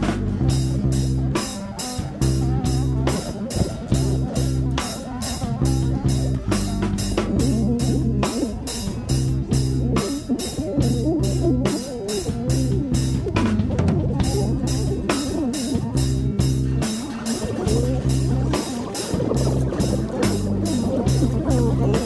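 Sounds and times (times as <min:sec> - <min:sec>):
bass notes: 0:00.0 - 0:22.0
drum kit beat: 0:00.0 - 0:22.0
guitar line: 0:00.0 - 0:22.0.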